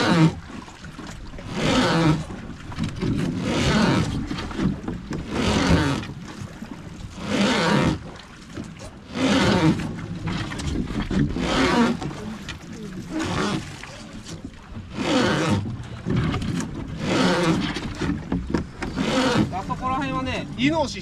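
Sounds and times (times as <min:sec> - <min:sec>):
rowing strokes surging: 0:00.0 - 0:21.0.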